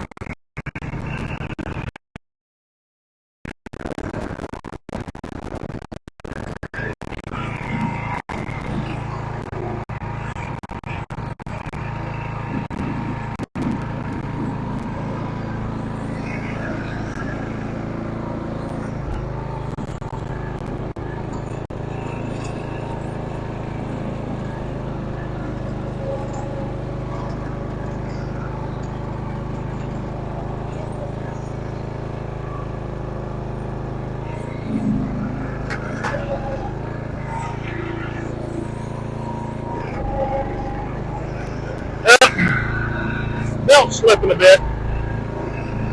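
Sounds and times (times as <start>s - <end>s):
riding mower engine running: 6.4s - 45.9s.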